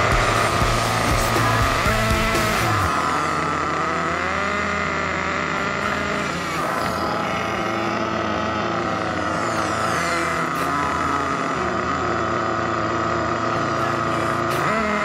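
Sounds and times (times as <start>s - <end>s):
nitro engine whining at high revs: 0.0s - 15.0s
second nitro buggy running: 0.0s - 15.0s.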